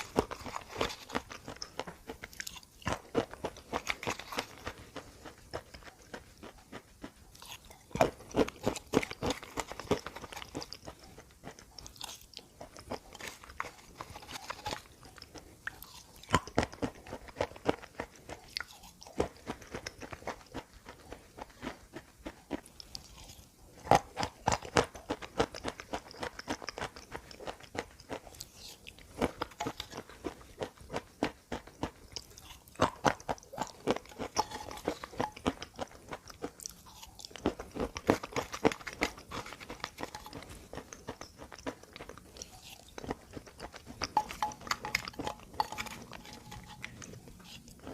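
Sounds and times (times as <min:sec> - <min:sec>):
crunchy chalk chewing: 0:00.0 - 0:47.9.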